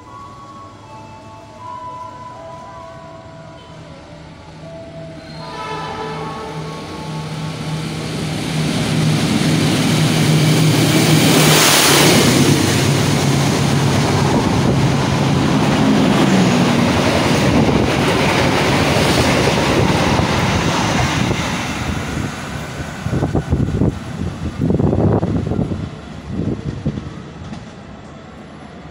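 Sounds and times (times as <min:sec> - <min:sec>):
locomotive engine hum: 0:00.0 - 0:28.9
train wheel-and-rail noise: 0:00.0 - 0:28.9.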